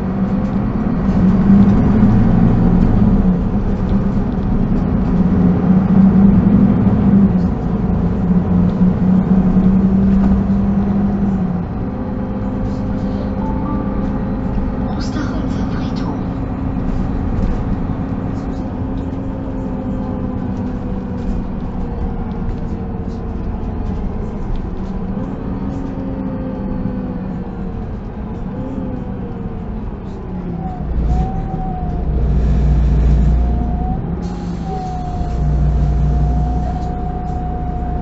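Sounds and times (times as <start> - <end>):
bus engine running: 0.0 - 38.0
drivetrain whine: 0.0 - 38.0.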